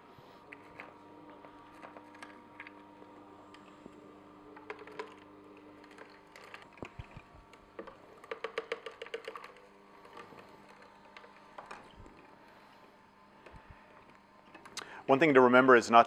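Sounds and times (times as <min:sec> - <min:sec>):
juicer running: 0:00.0 - 0:16.0.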